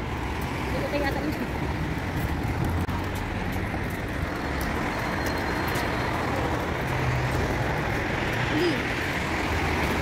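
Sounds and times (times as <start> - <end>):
cars passing on street: 0.0 - 10.0.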